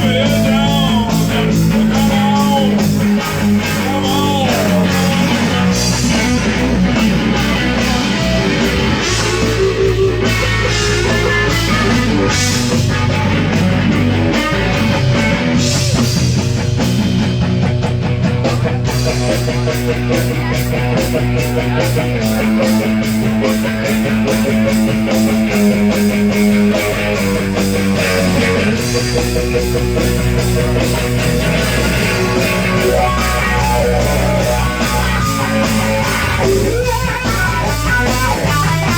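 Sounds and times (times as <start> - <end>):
live rock band playing: 0.0 - 38.9
steady drum beat: 0.0 - 38.9.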